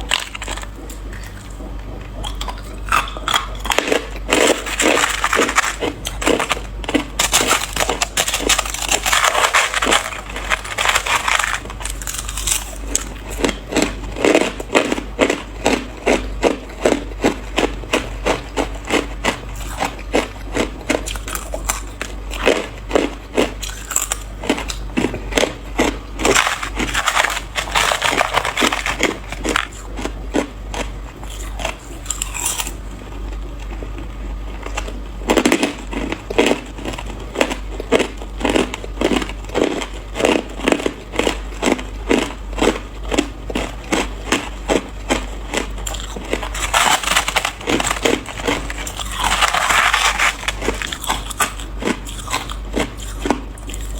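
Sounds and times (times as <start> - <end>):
person chewing ice: 0.0 - 53.9.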